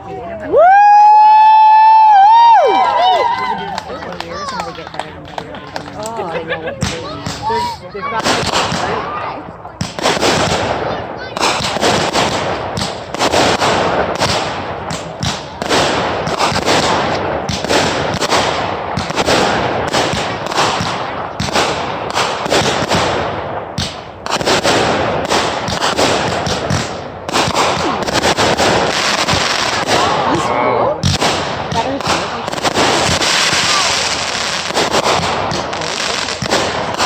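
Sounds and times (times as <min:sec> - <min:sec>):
fireworks bangs and crackling: 0:00.2 - 0:37.0.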